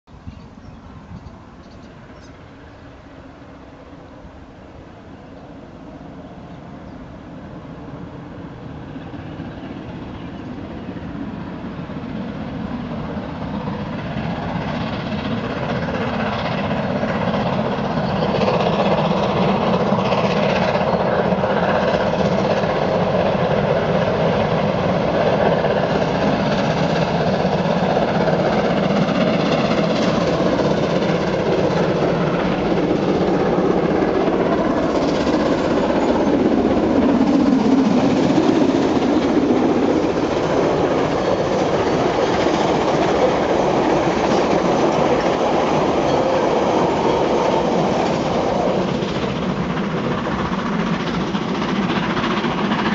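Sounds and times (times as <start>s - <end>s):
steam locomotive passing: 0.1s - 52.9s.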